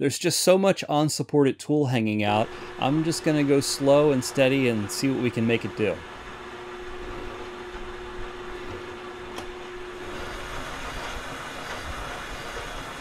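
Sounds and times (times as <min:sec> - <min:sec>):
harsh hissing cutting noise: 0:02.3 - 0:13.0
metal lathe whining: 0:02.3 - 0:13.0.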